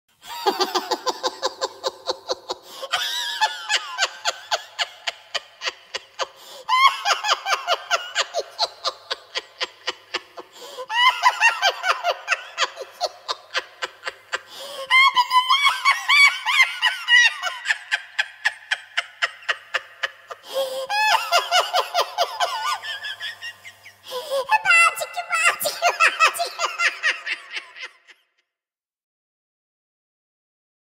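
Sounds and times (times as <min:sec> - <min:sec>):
high-pitched sped-up laughter: 0:00.3 - 0:28.2.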